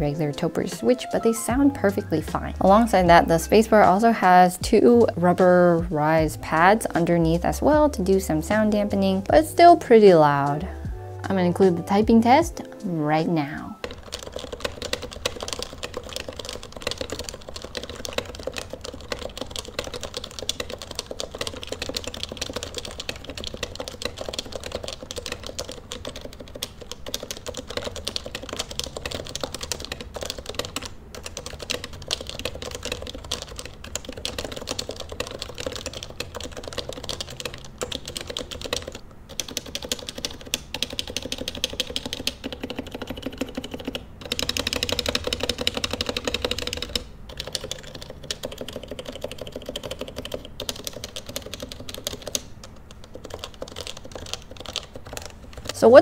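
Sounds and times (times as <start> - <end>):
fast keyboard typing: 0.0 - 12.6, 13.2 - 56.0.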